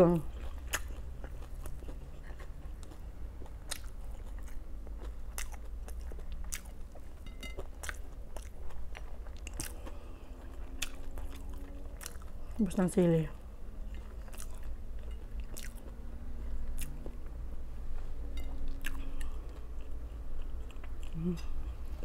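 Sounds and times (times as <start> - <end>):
wet chewing: 0.2 - 12.8, 13.8 - 16.0, 16.6 - 17.3, 18.4 - 22.0.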